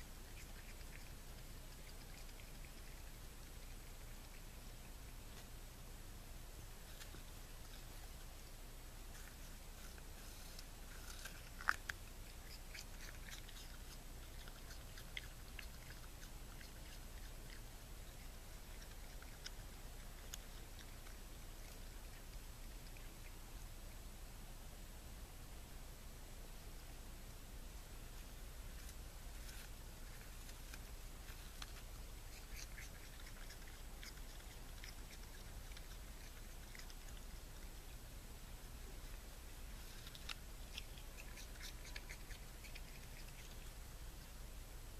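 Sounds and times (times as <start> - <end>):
raccoon chewing apple crunching: 0.0 - 24.0, 28.0 - 44.9
steady background hiss: 0.0 - 44.9.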